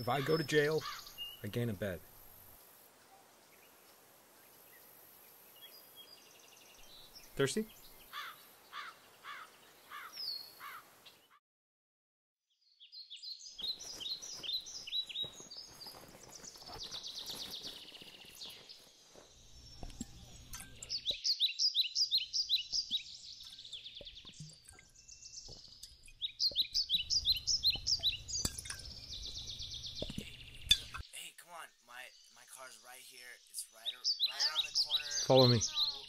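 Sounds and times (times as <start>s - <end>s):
songbird singing: 0.0s - 11.4s, 12.6s - 36.0s.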